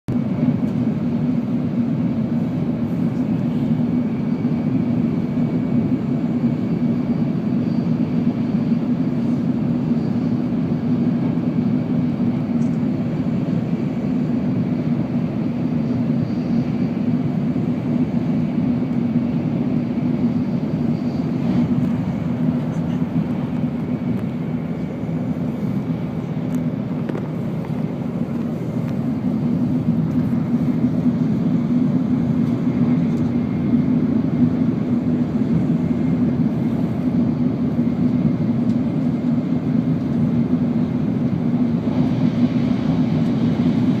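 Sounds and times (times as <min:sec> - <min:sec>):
train running with low rumble: 0:00.1 - 0:44.0.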